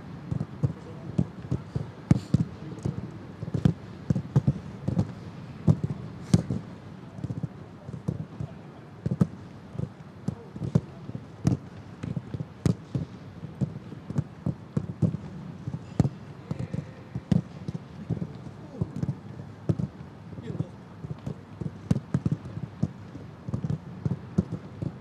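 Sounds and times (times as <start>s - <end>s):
steady background hiss: 0.0s - 25.0s
footballs being kicked: 0.2s - 25.0s.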